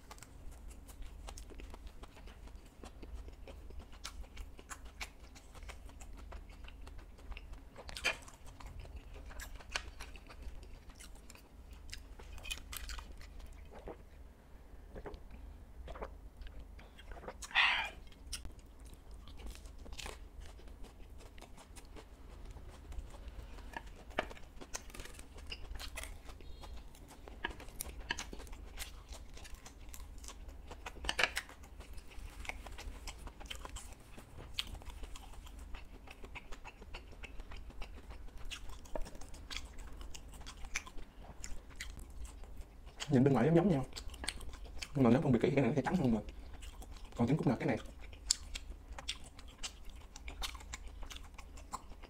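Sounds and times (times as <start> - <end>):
chewing crunchy fried food: 0.0 - 52.0.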